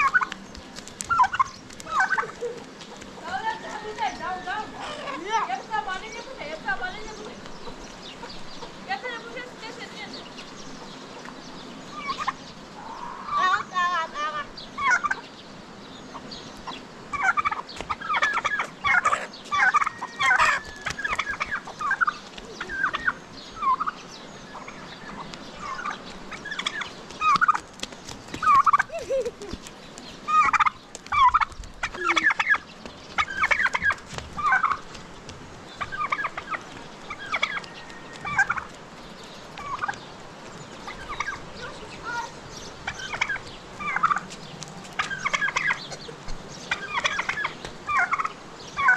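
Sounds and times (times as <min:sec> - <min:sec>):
poultry calling in rapid bursts: 0:00.0 - 0:15.4, 0:16.1 - 0:35.0, 0:35.7 - 0:48.9.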